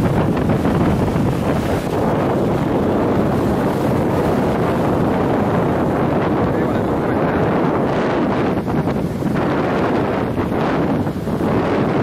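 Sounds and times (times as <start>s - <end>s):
small waves breaking on sand: 0.0s - 12.0s
wind buffeting microphone: 0.0s - 12.0s.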